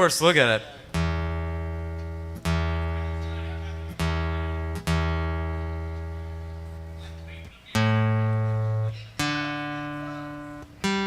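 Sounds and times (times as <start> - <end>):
acoustic guitar string plucked: 0.9 - 11.0.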